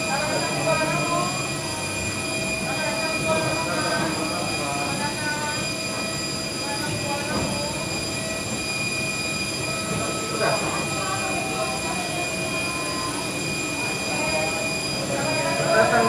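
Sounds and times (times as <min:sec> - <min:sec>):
high-pitched whining tones: 0:00.0 - 0:16.0.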